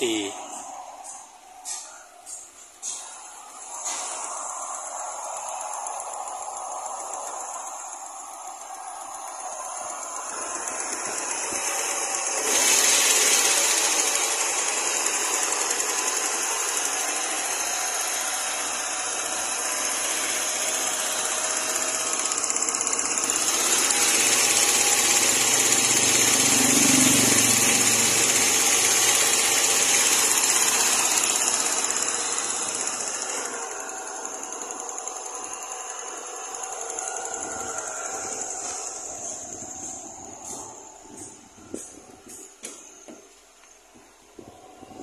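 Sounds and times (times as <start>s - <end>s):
car engine whirring: 0.0s - 45.0s.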